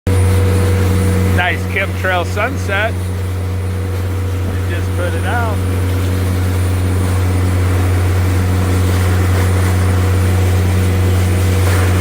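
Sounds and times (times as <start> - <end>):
boat engine droning: 0.1 - 12.0
wind and water hiss: 1.2 - 12.0.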